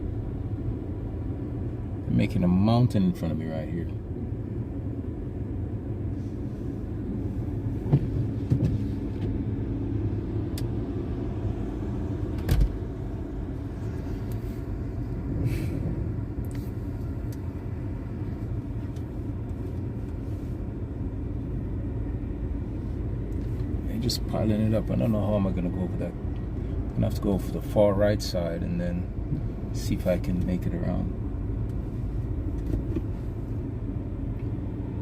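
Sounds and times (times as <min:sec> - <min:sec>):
heavy vehicle engines rumbling: 0:00.0 - 0:35.0.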